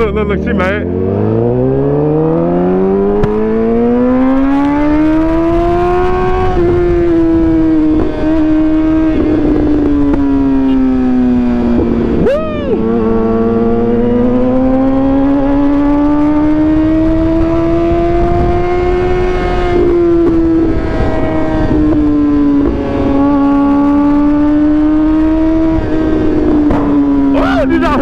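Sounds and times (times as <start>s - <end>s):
wind noise: 2.6s - 28.0s.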